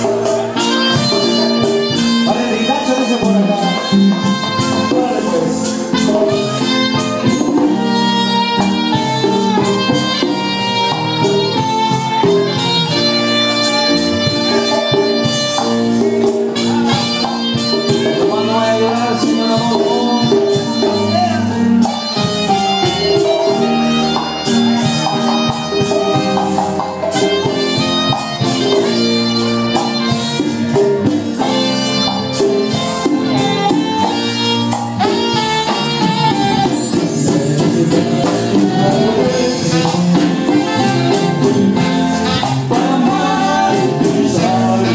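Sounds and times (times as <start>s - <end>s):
latin dance band playing: 0.0s - 44.9s
percussion beat: 0.0s - 44.9s
saxophones melody: 0.0s - 44.9s.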